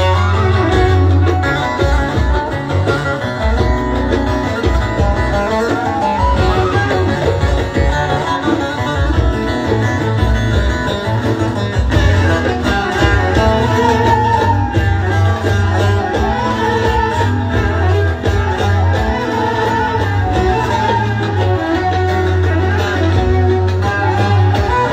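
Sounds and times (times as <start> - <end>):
electric guitar: 0.0 - 24.9
plucked lute melody: 0.0 - 24.9.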